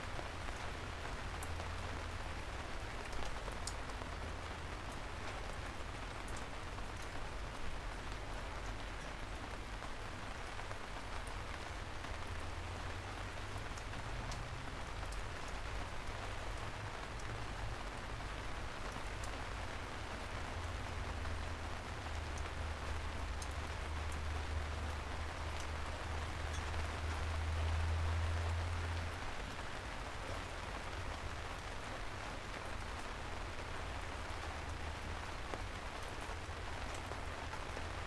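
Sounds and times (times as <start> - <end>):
raindrops ticking: 0.0 - 38.0
steady rain hiss: 0.0 - 38.0.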